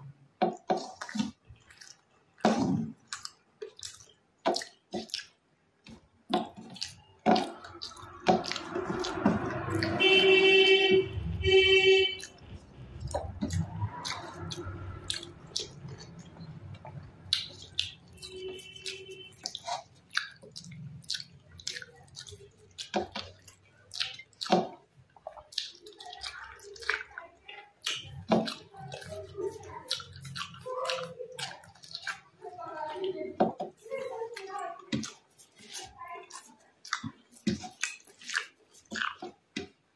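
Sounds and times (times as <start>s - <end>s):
wet chewing and lip smacks: 0.5s - 39.9s.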